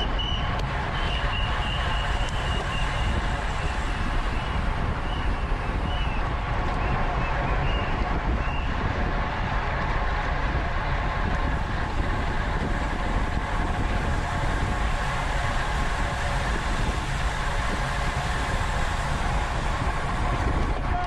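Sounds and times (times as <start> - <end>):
bicycle road noise: 0.0 - 21.0
wind rushing: 0.0 - 21.0.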